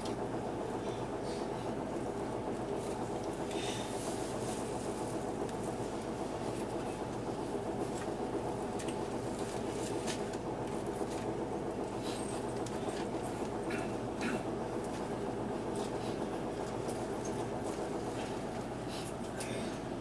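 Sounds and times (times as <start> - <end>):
bus diesel engine idling: 0.0 - 20.0.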